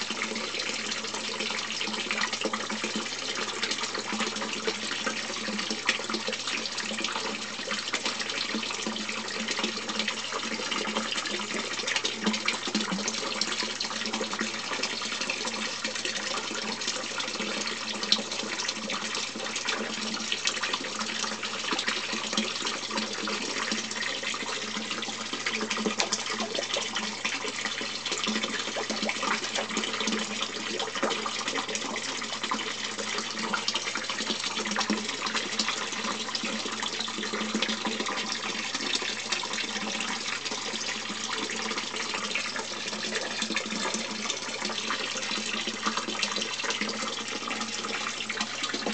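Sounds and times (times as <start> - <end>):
water splashing into tank: 0.0 - 48.9.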